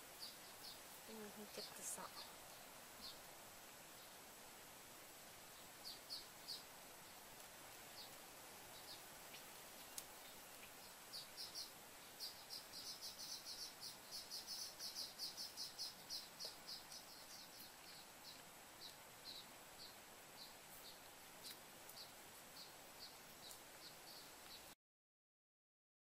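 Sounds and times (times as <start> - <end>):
bird chirping: 0.0 - 3.3, 5.5 - 24.7
faint background hiss: 0.0 - 24.8.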